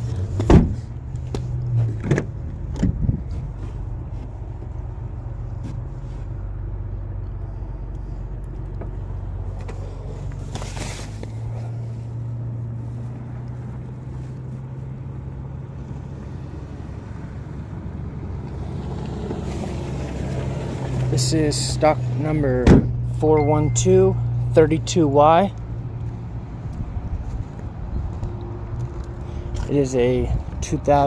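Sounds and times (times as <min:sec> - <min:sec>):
engine idling hum: 0:00.0 - 0:31.0.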